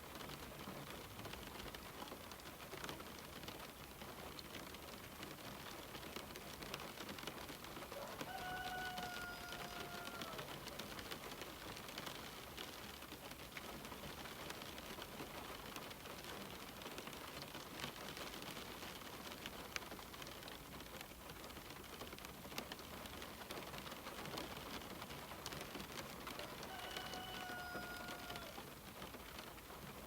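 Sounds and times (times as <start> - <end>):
rain pattering on a window: 0.0 - 30.0.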